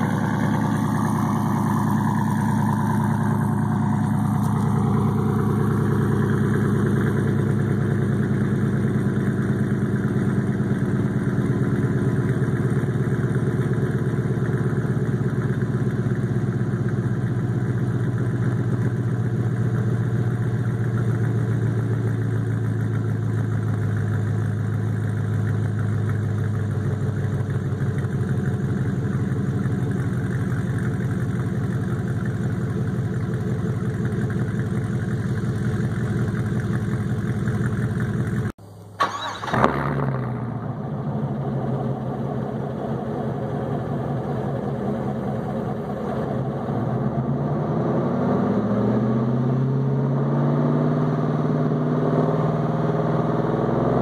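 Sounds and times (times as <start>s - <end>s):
truck engine idling: 0.0s - 47.3s.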